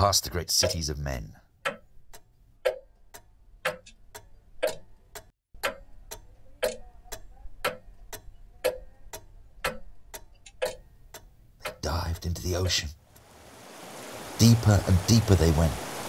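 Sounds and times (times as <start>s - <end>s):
clock ticking: 0.0s - 13.3s.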